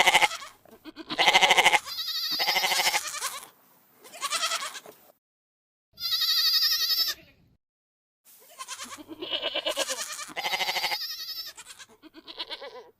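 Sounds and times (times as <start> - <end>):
goat bleating: 0.0 - 4.9, 6.0 - 7.4, 8.4 - 12.9.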